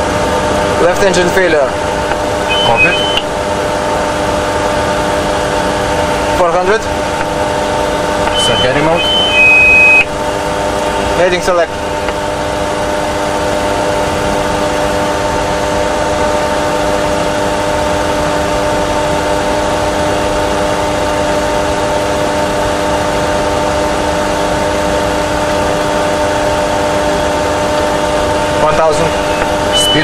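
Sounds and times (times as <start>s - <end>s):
cockpit engine and airflow noise: 0.0s - 30.0s.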